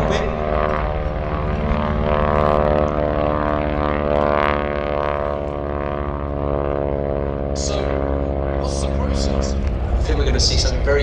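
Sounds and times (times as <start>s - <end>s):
biplane engine droning: 0.0s - 11.0s.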